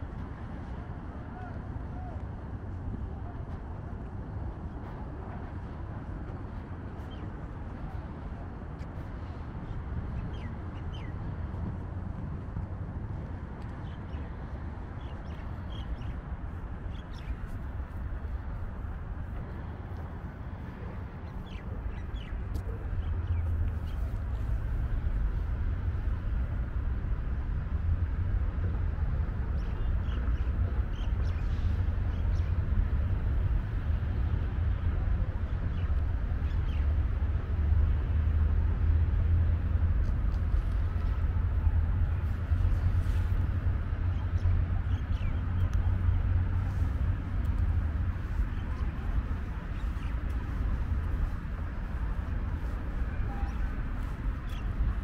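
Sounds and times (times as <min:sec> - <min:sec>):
low city rumble: 0:00.0 - 0:55.0.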